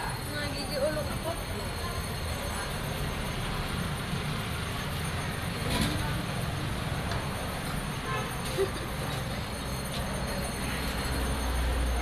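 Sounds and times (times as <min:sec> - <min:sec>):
traffic with engine rumble: 0:00.0 - 0:12.0.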